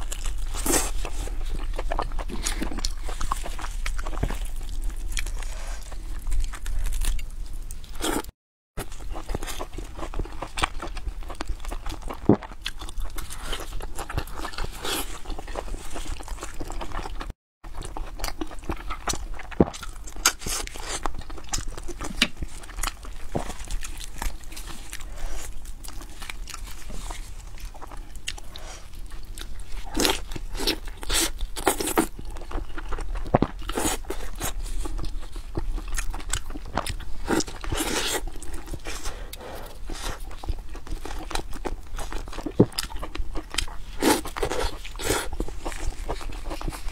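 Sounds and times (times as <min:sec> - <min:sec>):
person chewing meat: 0:00.0 - 0:46.9.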